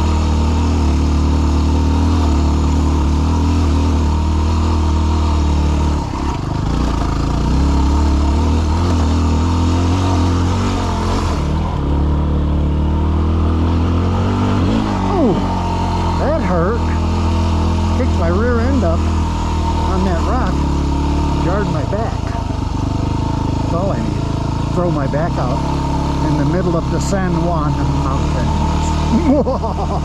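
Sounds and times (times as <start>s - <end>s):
motorcycle engine under load: 0.0s - 30.0s.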